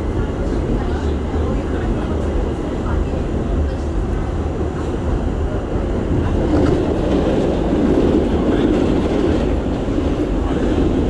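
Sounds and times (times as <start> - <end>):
passing subway train: 0.0 - 11.0
subway train running at speed: 0.0 - 11.0.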